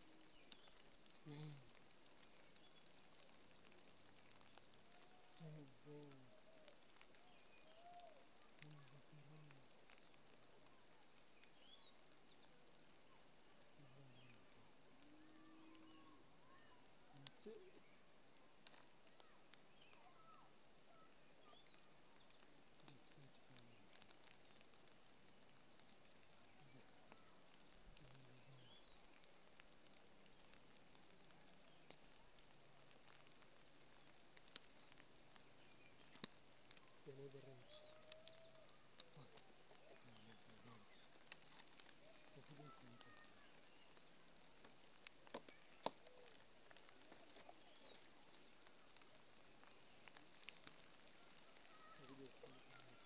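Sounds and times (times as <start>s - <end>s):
small ticks: 0.0s - 53.0s.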